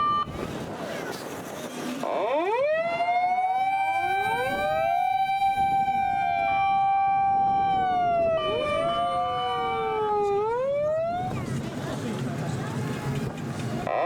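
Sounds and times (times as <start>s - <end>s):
fire engine sirens wailing: 0.0s - 0.8s, 2.0s - 14.0s.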